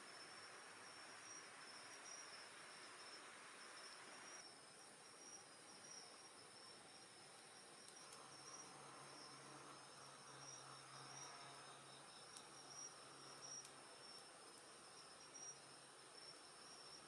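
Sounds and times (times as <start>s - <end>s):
night insects trilling: 0.0s - 17.0s
campfire crackling: 1.2s - 17.0s.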